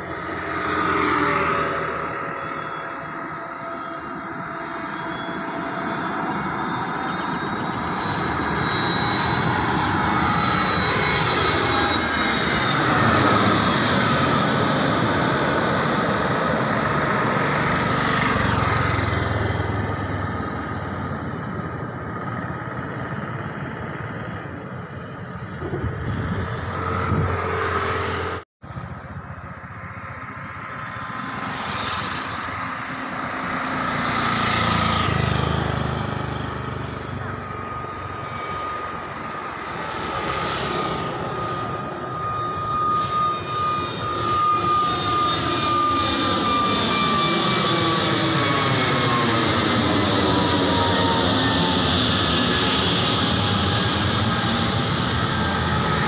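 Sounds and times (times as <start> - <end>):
engine sound: 0.0 - 56.0
jet airliner passing overhead: 0.0 - 56.0.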